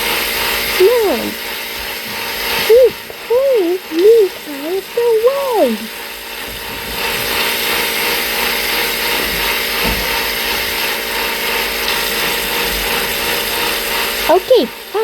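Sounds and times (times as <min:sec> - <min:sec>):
washing machine whirring: 0:00.0 - 0:15.0.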